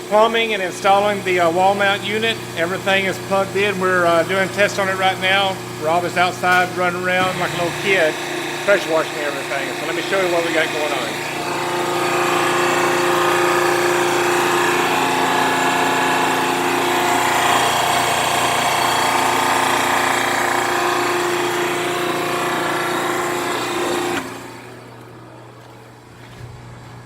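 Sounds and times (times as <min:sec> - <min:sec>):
pressure washer motor whine: 0:00.0 - 0:27.0.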